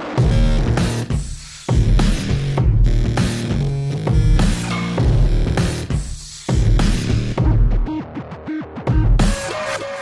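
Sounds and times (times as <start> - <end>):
electronic music with deep bass: 0.0 - 10.0.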